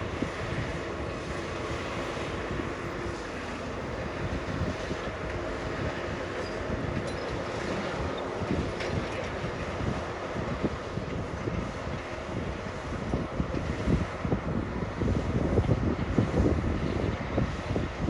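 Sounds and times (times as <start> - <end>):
heavy diesel engine rumbling: 0.0 - 18.0.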